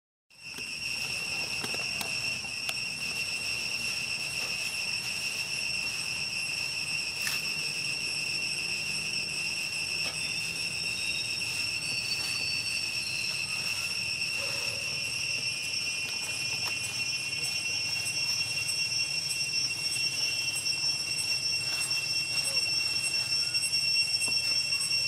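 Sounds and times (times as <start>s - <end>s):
high-pitched insect drone: 0.3s - 25.0s.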